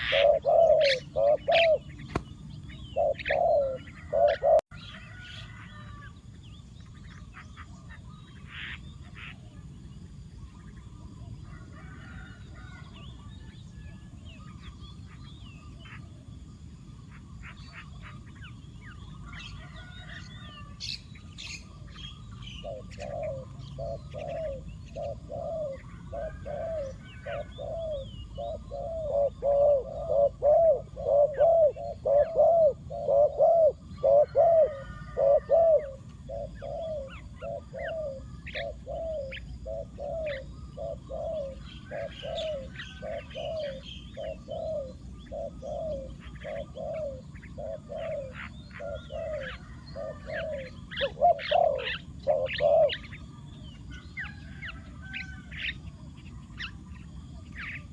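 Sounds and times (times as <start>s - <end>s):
dove cooing: 0.0s - 6.2s, 10.7s - 57.9s
small birds chirping faintly: 0.0s - 57.9s.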